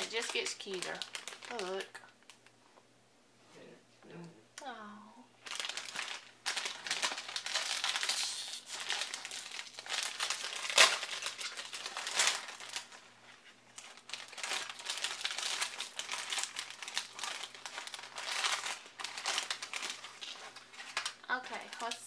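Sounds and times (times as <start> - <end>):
plastic pouch crinkling: 0.0 - 2.5, 5.4 - 22.0.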